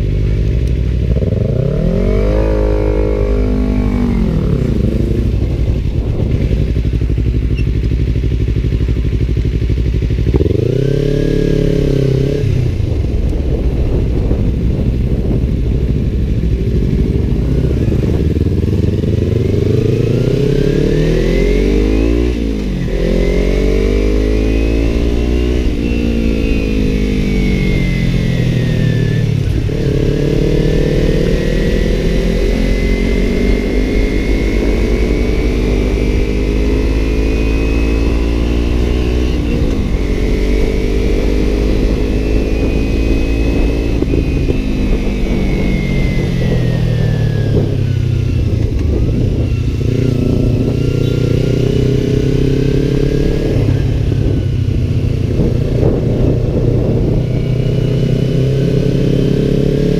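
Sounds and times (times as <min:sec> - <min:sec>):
motorcycle engine revving: 0:00.0 - 0:59.9
wind rush on microphone: 0:01.0 - 0:59.9.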